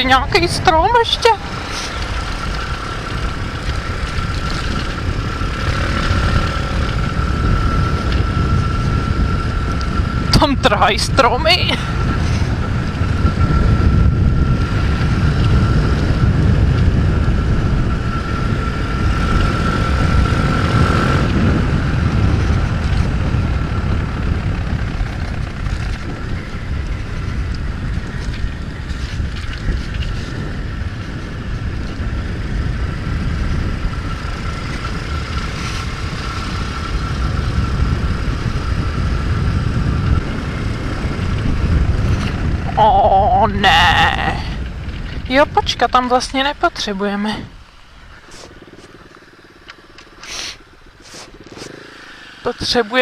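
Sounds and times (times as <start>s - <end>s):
motorbike engine running: 0.0s - 53.0s
thin steady whine: 0.0s - 53.0s
wind rumbling on microphone: 0.0s - 53.0s.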